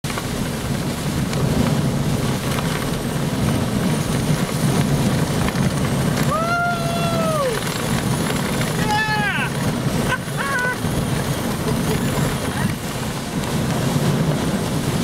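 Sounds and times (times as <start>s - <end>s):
strong wind rushing: 0.0s - 15.0s.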